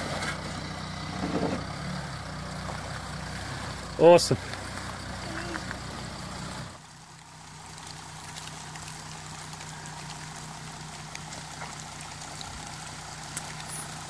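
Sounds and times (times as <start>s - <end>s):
diesel engine running at low revs: 0.0s - 14.0s.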